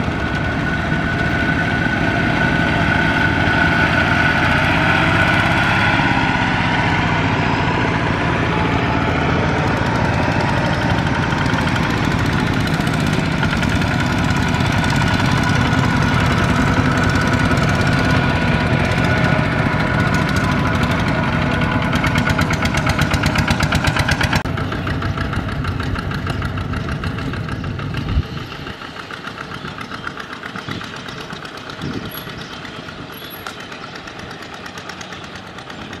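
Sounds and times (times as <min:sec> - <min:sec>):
diesel tiller engines putting: 0:00.0 - 0:36.0.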